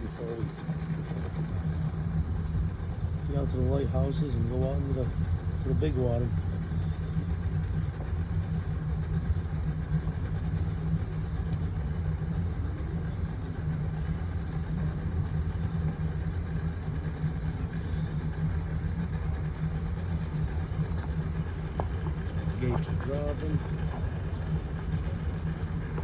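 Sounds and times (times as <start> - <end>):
boat engine idling: 0.0 - 26.0.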